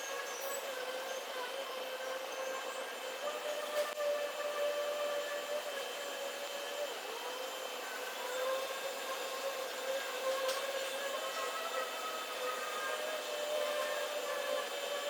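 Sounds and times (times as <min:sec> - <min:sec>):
small motor whining: 0:00.0 - 0:15.0.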